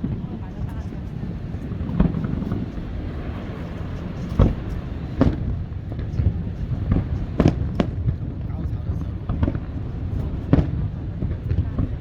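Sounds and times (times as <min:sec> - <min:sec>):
fireworks booming: 0:00.0 - 0:12.0
steady low rumble: 0:00.0 - 0:12.0.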